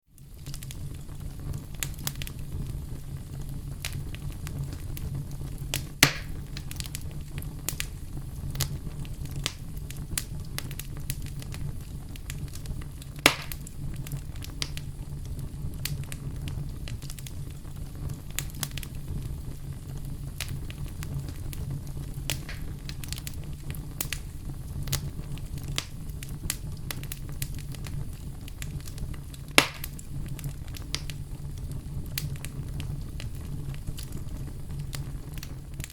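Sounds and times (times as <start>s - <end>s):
campfire crackling: 0.1s - 35.9s
burning wood pops: 0.2s - 35.9s.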